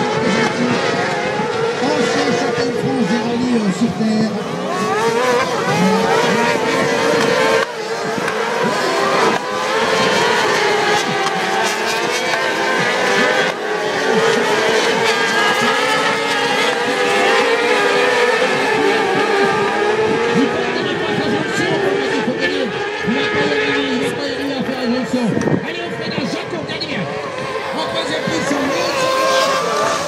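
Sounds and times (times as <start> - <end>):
racing buggy engines revving: 0.0 - 30.0.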